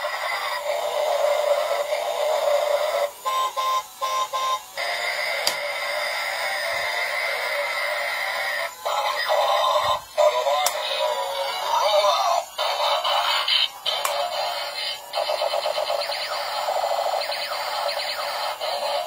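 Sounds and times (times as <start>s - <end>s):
toy electronic music: 0.0s - 19.0s
toy sound effects: 0.0s - 19.0s.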